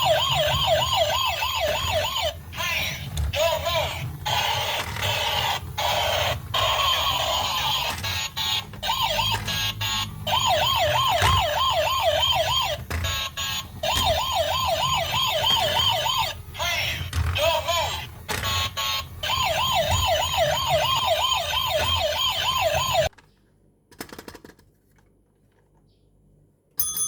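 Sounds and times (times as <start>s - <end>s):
toy police siren warbling: 0.0s - 23.1s.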